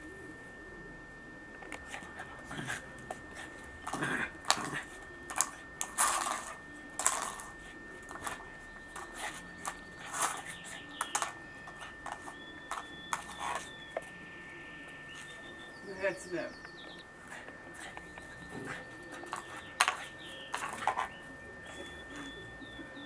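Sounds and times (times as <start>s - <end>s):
comb clattering on stone tiles: 1.6s - 14.2s, 14.8s - 22.3s.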